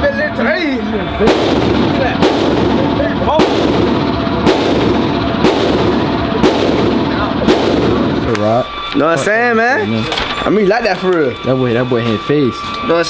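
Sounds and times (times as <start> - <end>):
continuous din: 0.0 - 13.0
pistol shots: 0.8 - 12.0.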